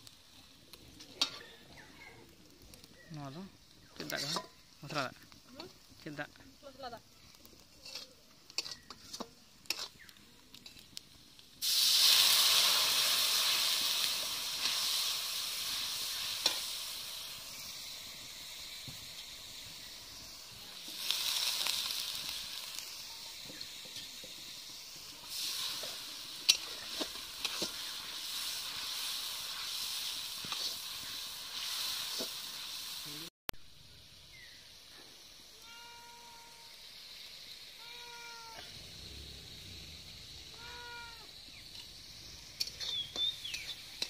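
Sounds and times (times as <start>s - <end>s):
spices sizzling in hot oil: 0.0s - 44.0s.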